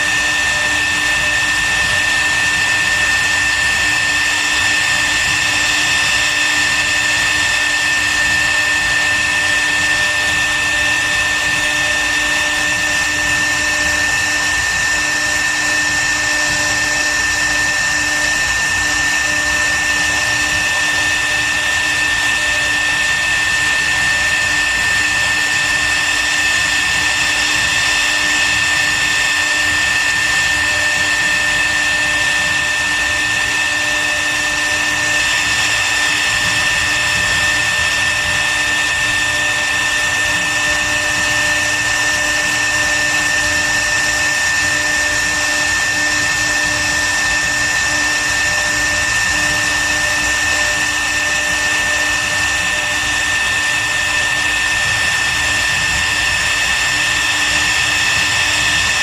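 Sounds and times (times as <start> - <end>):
router spindle high-pitched whine: 0.0 - 59.0.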